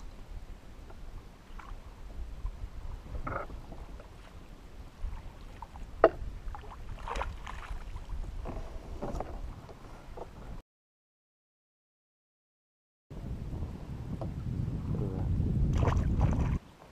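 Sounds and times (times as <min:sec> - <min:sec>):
wind rumble on microphone: 0:00.0 - 0:10.6, 0:13.1 - 0:16.9.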